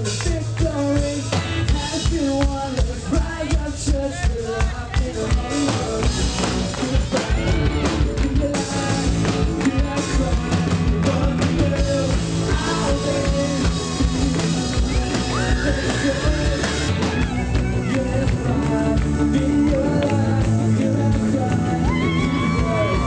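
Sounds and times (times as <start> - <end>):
drum kit: 0.0 - 23.0
person singing: 0.0 - 23.0
rock band music: 0.0 - 23.0.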